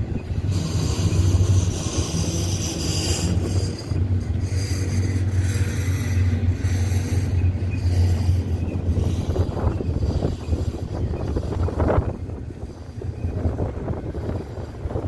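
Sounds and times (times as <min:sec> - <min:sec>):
faint high rail tones: 0:00.0 - 0:15.0
freight train rumbling: 0:00.0 - 0:15.0.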